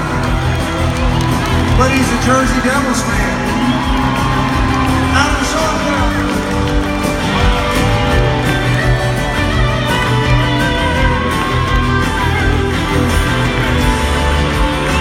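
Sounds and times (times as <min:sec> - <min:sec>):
electric guitar with bent notes: 0:00.0 - 0:15.0
live country rock band: 0:00.0 - 0:15.0.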